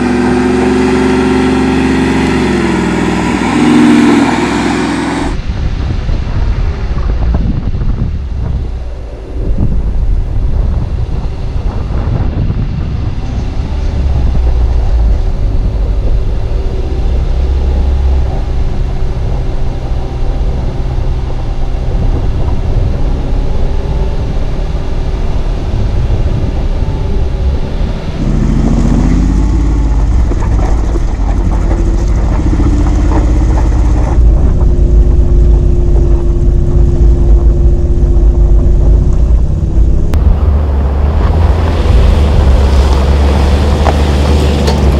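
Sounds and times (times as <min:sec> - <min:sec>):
car engine running slowly: 0:00.0 - 0:44.9
wind rumble on microphone: 0:00.0 - 0:44.9.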